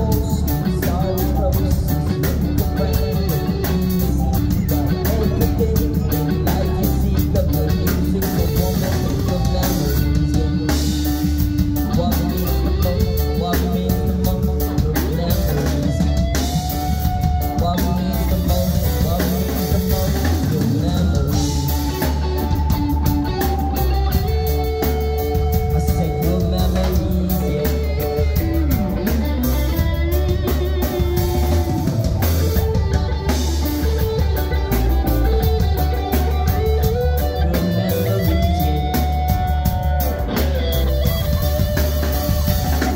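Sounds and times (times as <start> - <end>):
bass guitar: 0.0 - 42.9
drum kit: 0.0 - 42.9
electric guitar lead: 0.0 - 42.9.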